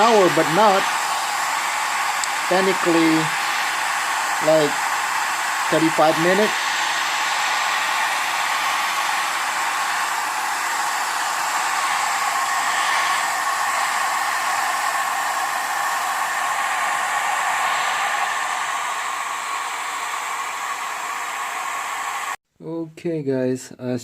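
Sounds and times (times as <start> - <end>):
hair dryer running: 0.0 - 22.4.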